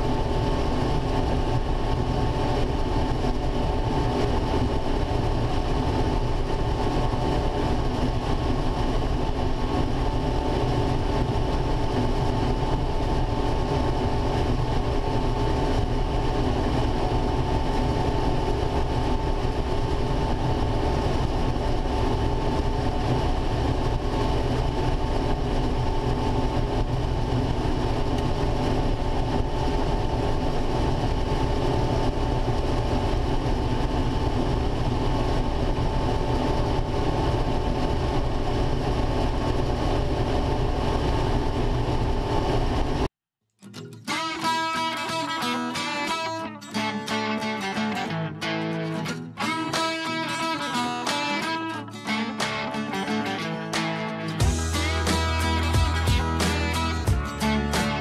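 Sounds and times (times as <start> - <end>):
combine harvester running: 0.0 - 43.0, 54.4 - 58.0.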